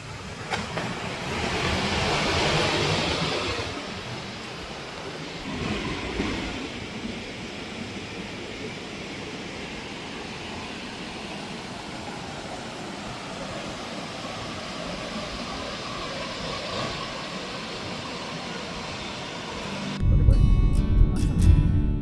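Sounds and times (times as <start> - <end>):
waterfall rushing: 1.2 - 20.0.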